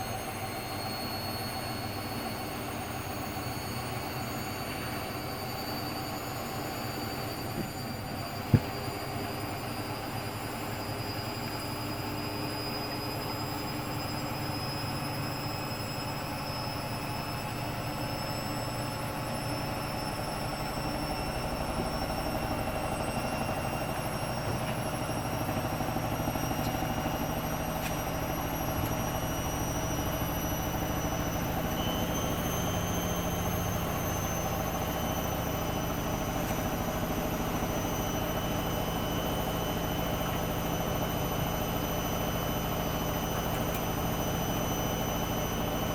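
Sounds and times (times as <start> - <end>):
washing machine spinning: 0.0 - 45.9.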